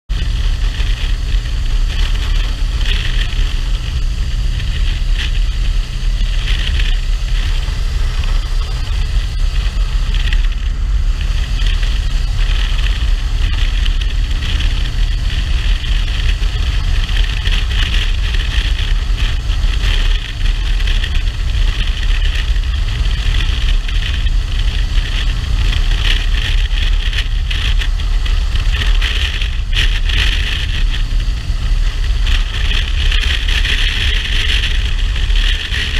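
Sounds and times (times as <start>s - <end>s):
motorcycle engine and road noise: 0.0s - 35.9s
wind buffeting microphone: 0.1s - 35.9s.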